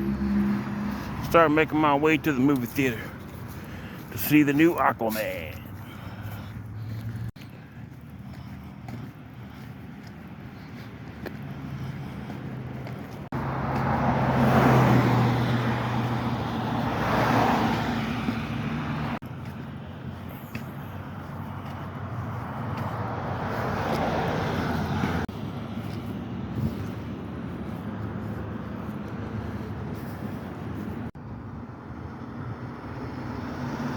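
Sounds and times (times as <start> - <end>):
vehicles passing: 0.0 - 33.9.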